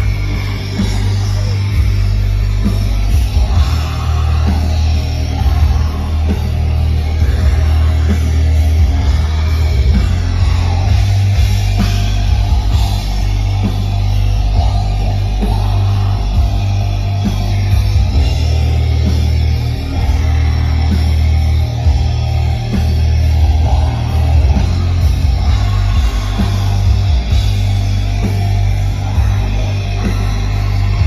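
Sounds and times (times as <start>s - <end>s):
distorted electric guitars: 0.0s - 31.0s
drums: 0.0s - 31.0s
heavy bass: 0.0s - 31.0s.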